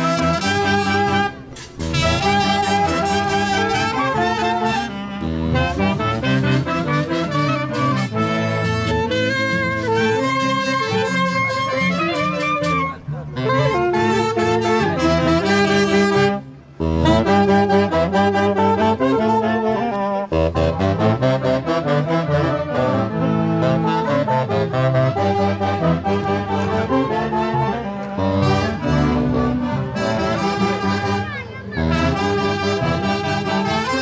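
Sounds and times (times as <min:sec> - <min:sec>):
band music with horns: 0:00.0 - 0:34.0.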